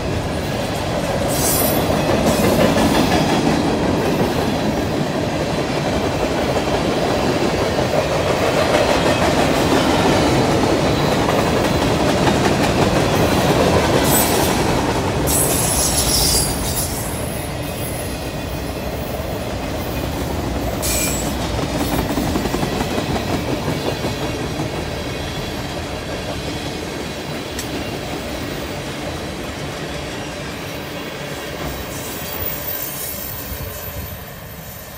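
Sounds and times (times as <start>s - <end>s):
train wheels clattering: 0.0s - 30.0s.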